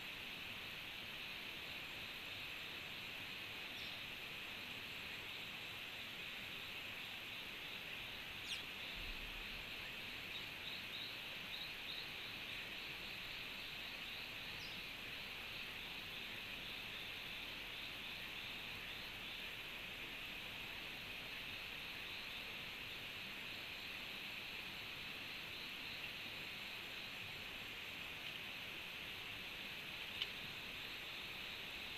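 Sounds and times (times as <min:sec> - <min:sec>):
insects: 0:00.0 - 0:31.9.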